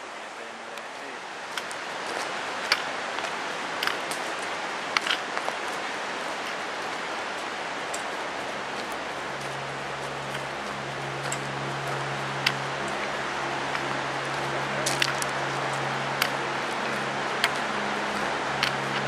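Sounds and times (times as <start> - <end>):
steady rushing noise: 0.0 - 19.0
footsteps on gravel: 1.0 - 4.4, 5.0 - 19.0
trekking poles clicking on stones: 1.5 - 19.0.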